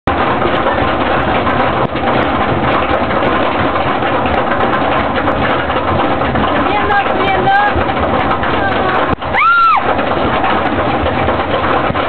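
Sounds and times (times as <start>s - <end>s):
roller coaster rumble: 0.1s - 12.0s.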